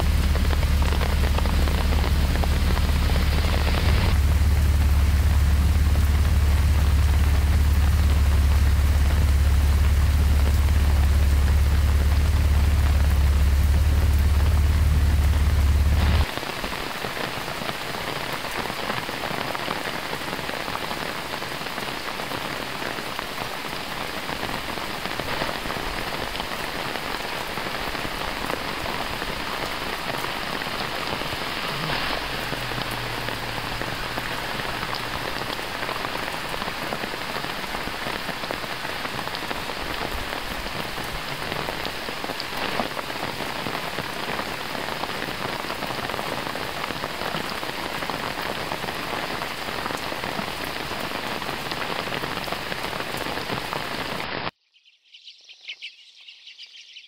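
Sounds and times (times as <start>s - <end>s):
rain falling on foliage: 0.0s - 54.6s.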